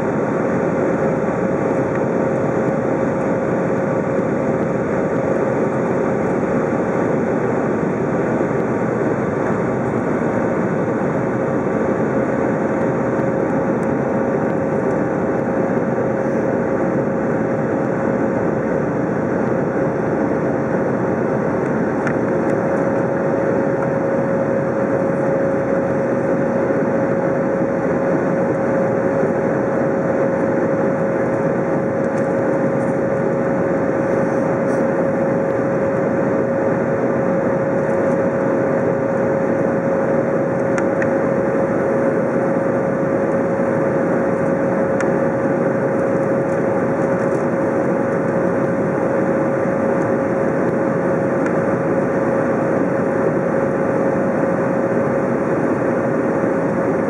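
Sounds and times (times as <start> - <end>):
jet engines at climb power: 0.0 - 57.0
steady droning tone: 0.0 - 57.0.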